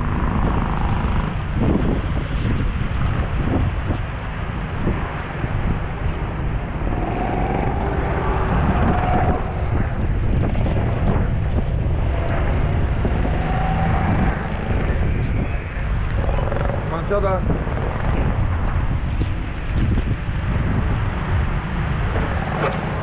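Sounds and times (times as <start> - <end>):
go-kart engines running: 0.0 - 23.0
wind on microphone: 0.0 - 23.0.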